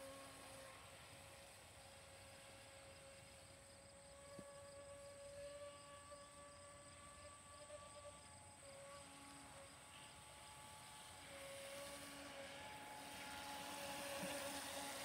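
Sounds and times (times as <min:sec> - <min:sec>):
distant speedboat motor whine: 0:00.0 - 0:15.0.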